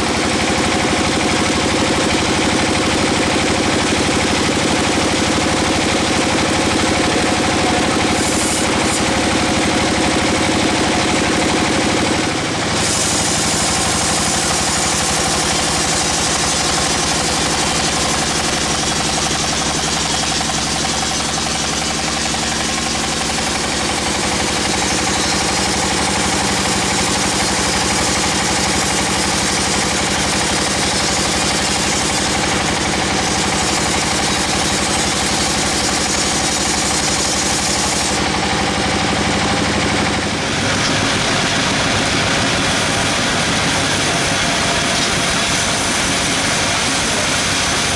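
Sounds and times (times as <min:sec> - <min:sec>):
sawmill machinery droning: 0:00.0 - 0:47.9.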